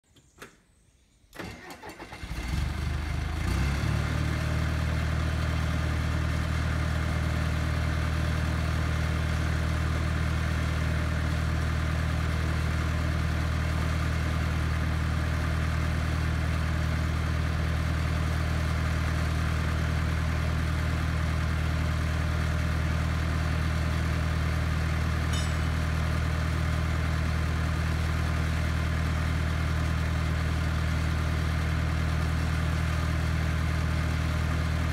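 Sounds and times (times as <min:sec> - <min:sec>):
diesel engine starting and idling: 0:01.3 - 0:34.9.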